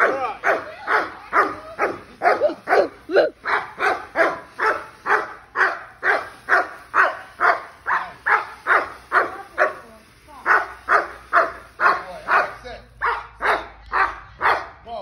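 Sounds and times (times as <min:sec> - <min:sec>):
dog barking: 0:00.0 - 0:14.8.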